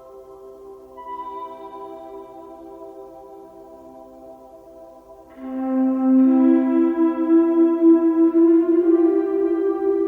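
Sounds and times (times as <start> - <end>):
ambient music with sustained notes: 0.0 - 10.0.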